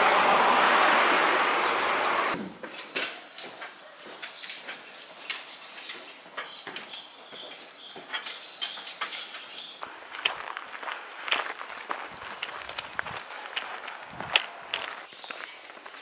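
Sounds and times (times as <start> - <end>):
songbirds chirping: 1.2 - 16.0.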